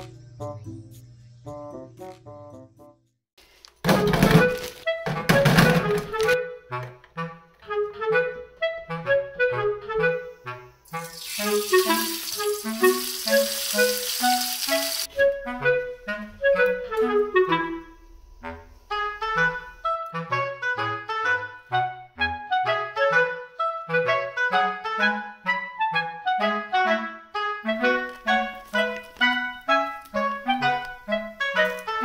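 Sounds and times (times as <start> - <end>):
bouncy woodwind melody: 4.2 - 32.0.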